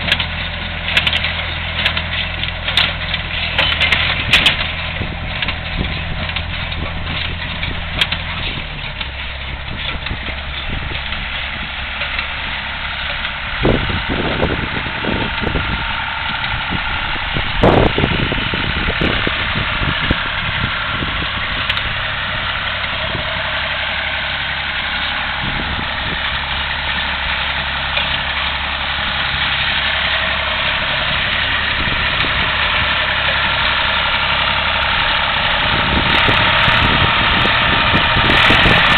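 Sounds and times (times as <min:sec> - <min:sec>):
loud clanks and knocks: 0:00.0 - 0:20.2, 0:21.0 - 0:38.9
engine running: 0:00.0 - 0:38.9.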